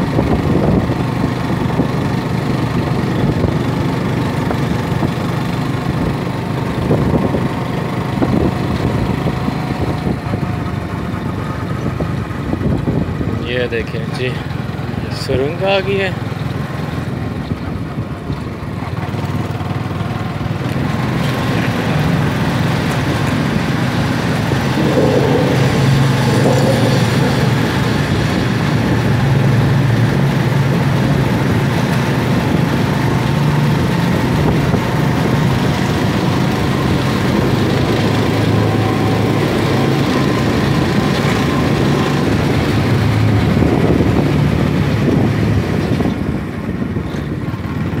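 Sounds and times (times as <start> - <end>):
motorcycle engine running: 0.0 - 13.4, 14.3 - 48.0
road and wind noise: 0.0 - 48.0.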